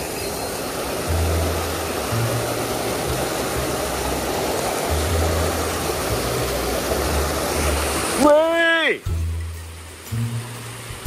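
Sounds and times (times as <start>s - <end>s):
stream rushing over rocks: 0.0s - 11.0s
low bass background music: 1.1s - 8.2s, 9.0s - 11.0s.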